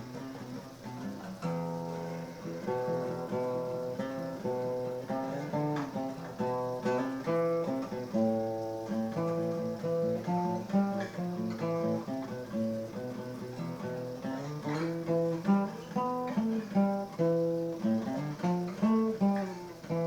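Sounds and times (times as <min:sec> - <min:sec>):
acoustic guitar playing chords: 0:00.0 - 0:20.0.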